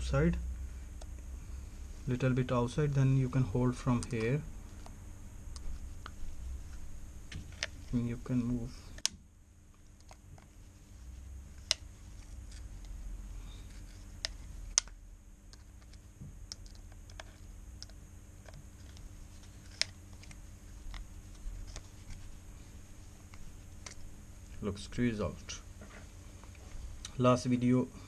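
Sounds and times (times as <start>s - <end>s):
faint handling noise: 0.8s - 9.1s, 9.7s - 27.3s.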